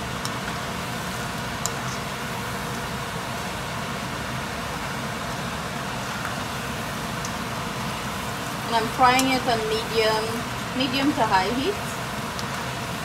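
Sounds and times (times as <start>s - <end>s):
hot oil sizzling and bubbling: 0.0s - 13.0s.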